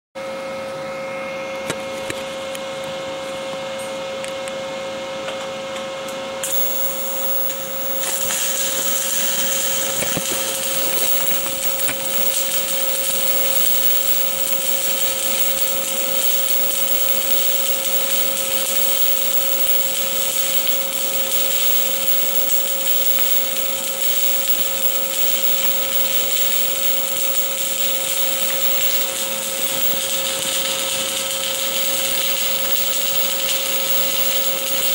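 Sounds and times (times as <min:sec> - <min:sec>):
welding arc crackling hiss: 0:06.4 - 0:34.9.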